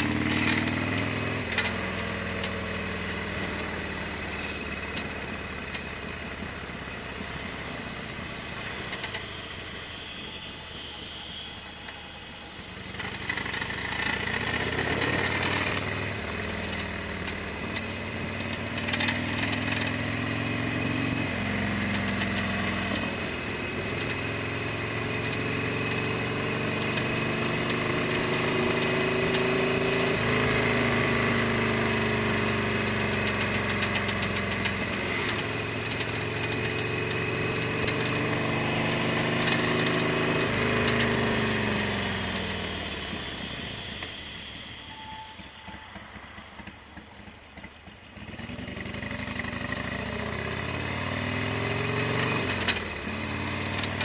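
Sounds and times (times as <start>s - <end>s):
motorcycle engine revving through gears: 0.0s - 10.0s, 12.7s - 54.0s.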